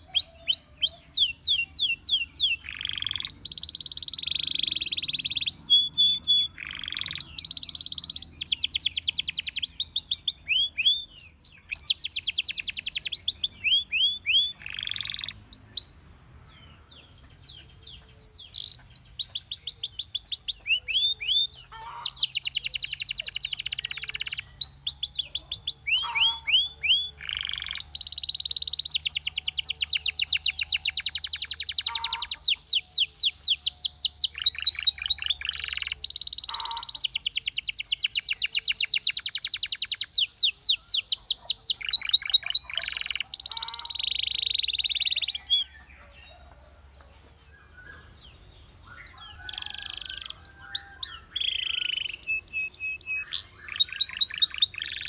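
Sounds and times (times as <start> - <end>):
canary singing: 0.0 - 16.0, 16.6 - 55.0.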